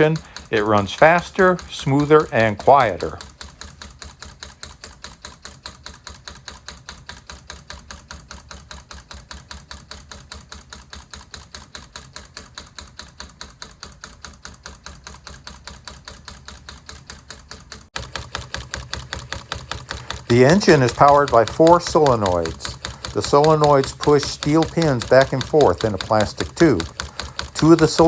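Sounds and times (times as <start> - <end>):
solenoid engine clicking: 0.0 - 28.0.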